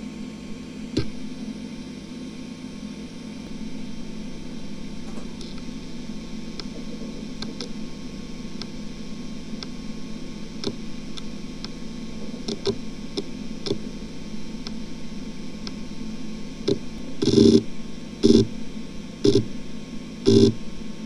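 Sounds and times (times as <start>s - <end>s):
hard drive whirring: 0.0s - 21.0s
hard drive heads ticking: 4.0s - 21.0s.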